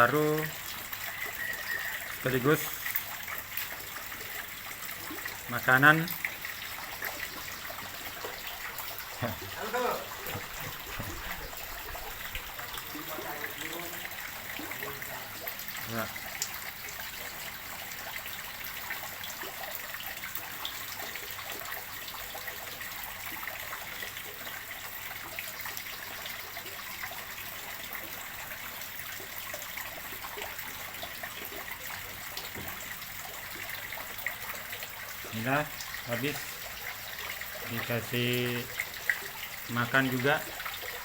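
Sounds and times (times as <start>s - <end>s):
water running into pond: 0.0s - 41.0s.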